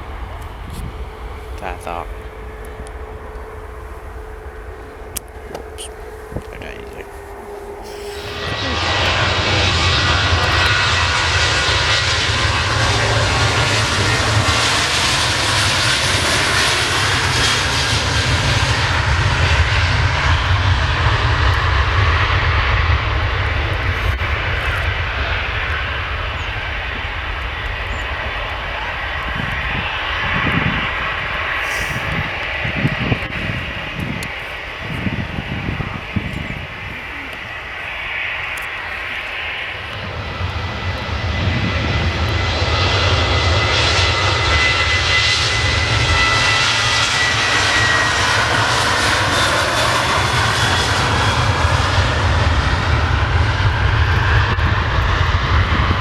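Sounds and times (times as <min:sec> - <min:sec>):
jet engines roaring: 0:00.0 - 0:56.0
low rumbles: 0:00.0 - 0:56.0.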